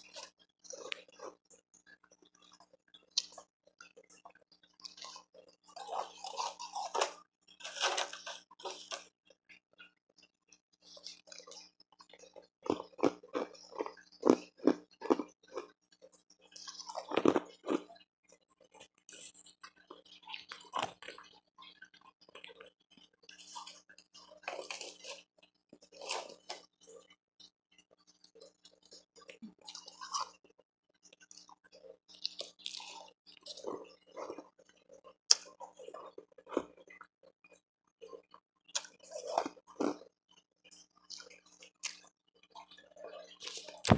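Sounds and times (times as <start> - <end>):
chewing crunchy ice: 0.0 - 9.2, 10.8 - 27.5, 28.3 - 43.9.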